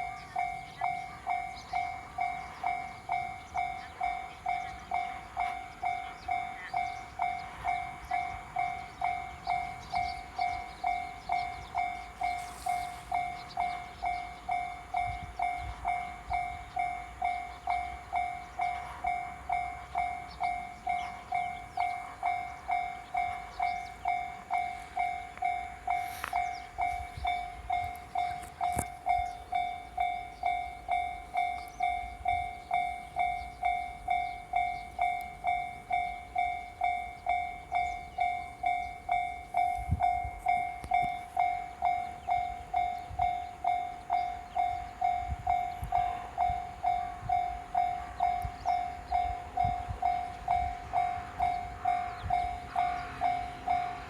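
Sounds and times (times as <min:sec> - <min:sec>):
level crossing bell clanging: 0:00.0 - 0:54.0.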